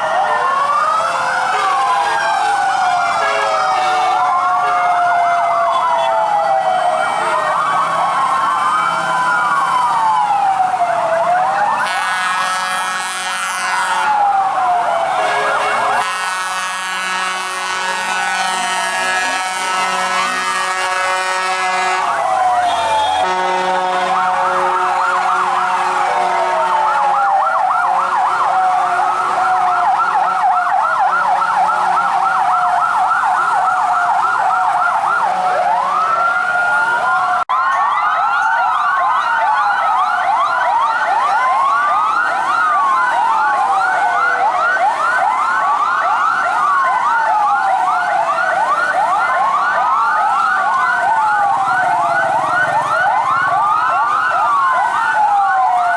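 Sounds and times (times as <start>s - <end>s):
fire truck sirens wailing: 0.0s - 55.9s.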